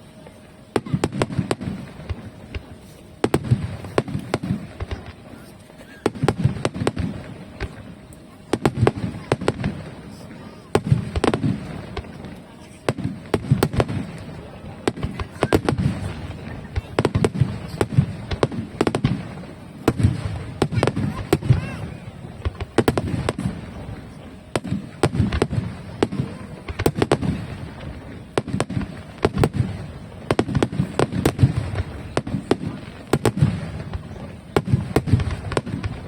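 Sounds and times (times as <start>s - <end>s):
fireworks cracking: 0.7s - 36.0s
fireworks deep booms: 0.8s - 36.0s.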